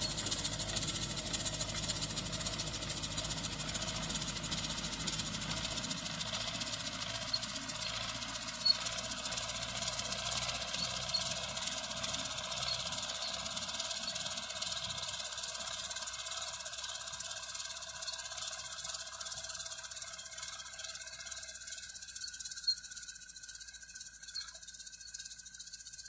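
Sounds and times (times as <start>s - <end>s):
distant tractor diesel engine: 0.0s - 26.0s.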